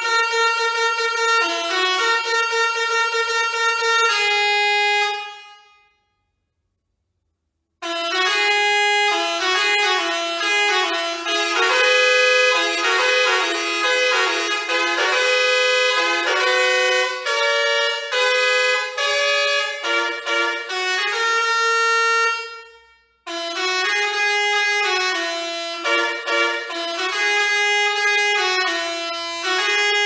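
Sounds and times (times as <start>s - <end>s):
musical air horn melody: 0.0s - 6.3s, 7.8s - 30.0s.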